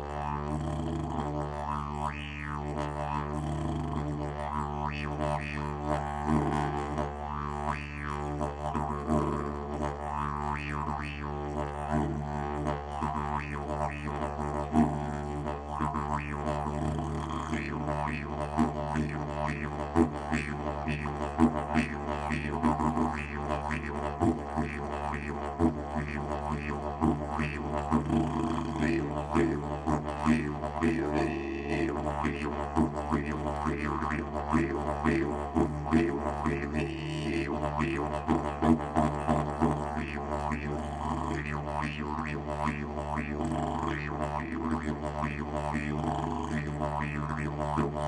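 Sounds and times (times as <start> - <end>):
didgeridoo music: 0.0 - 48.0.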